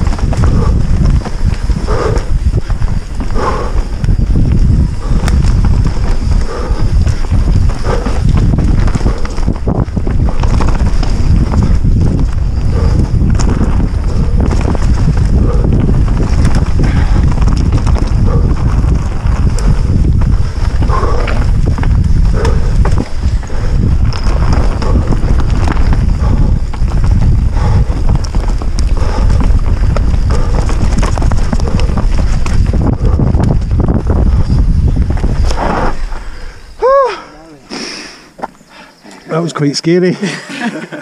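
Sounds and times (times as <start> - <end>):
bike knocking and rattling: 0.0 - 36.0
tyre rumble on dirt: 0.0 - 36.5
wind rushing over microphone: 0.0 - 39.0.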